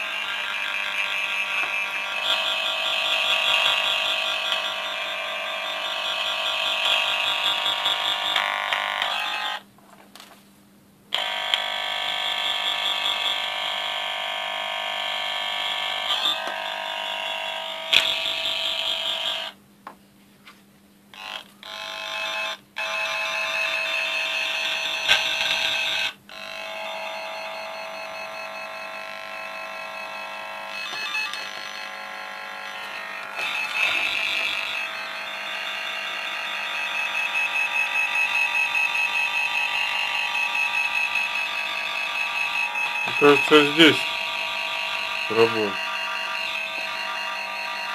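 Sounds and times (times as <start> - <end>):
cable tracer probe buzzing: 0.0 - 9.6, 11.2 - 19.6, 21.2 - 47.9.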